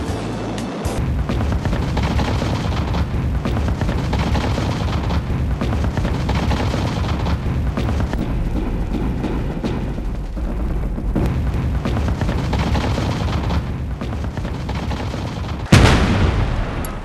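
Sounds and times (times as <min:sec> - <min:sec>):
booming explosions: 0:01.0 - 0:17.0
heavy gunfire: 0:01.0 - 0:17.0.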